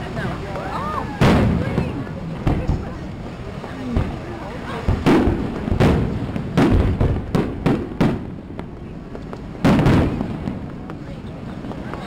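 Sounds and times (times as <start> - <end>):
firework booms: 1.0 - 12.0.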